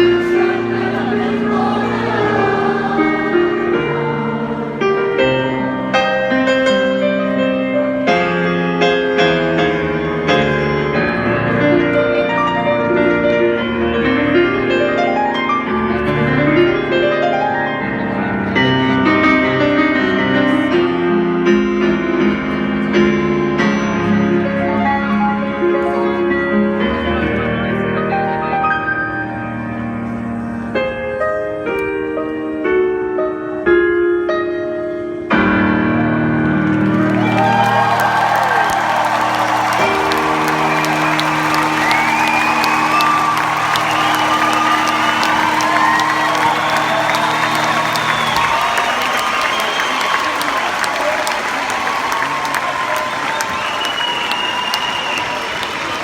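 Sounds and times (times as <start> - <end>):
piano melody with chords: 0.0 - 54.8.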